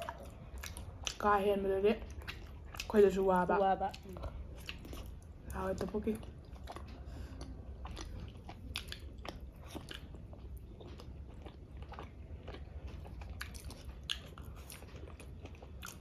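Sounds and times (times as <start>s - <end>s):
crisp chewing of food: 0.0s - 16.0s.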